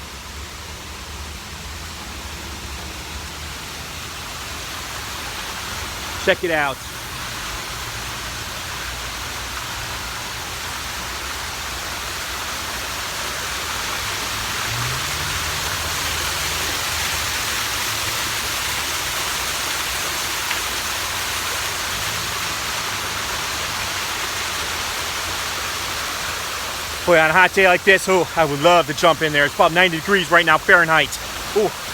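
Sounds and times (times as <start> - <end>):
waterfall into pool: 0.0 - 31.9.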